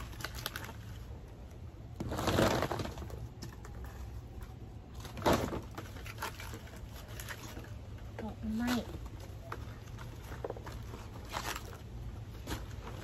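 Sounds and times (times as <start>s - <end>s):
bamboo stalks clicking and rustling: 0.0s - 13.0s.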